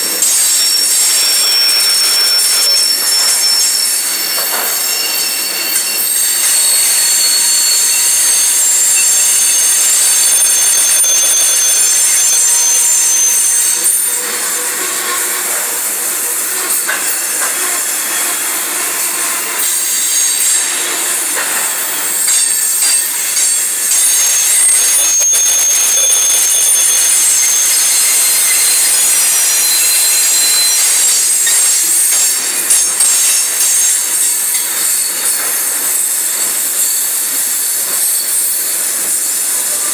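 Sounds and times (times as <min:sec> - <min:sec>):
steel wheels screeching: 0:00.0 - 0:39.9.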